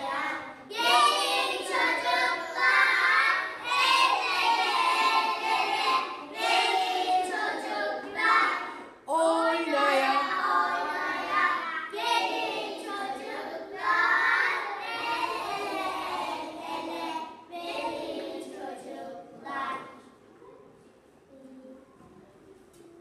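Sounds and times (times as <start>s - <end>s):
children singing together: 0.0s - 20.2s.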